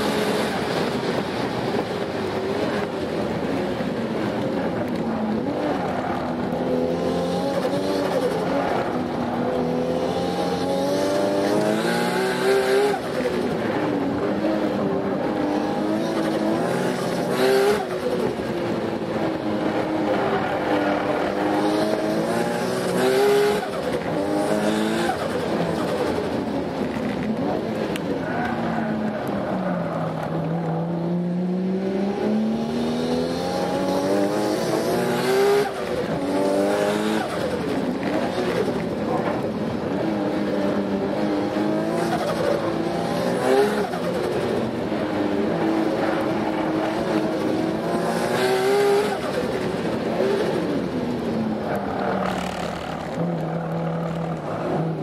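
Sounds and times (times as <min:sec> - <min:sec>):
car engine revving: 0:02.6 - 0:55.0.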